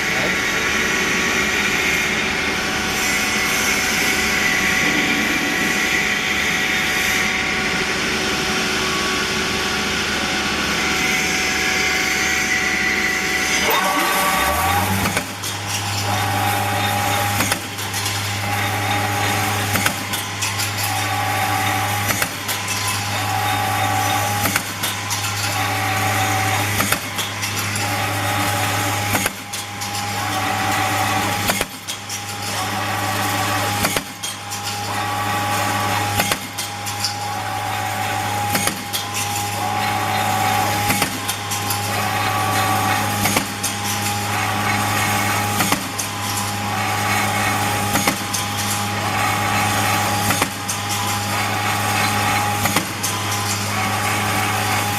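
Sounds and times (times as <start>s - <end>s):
machine motor hum: 0.0s - 54.9s
wire feeding through machine: 0.0s - 54.9s
sharp machine clack: 10.6s - 54.9s.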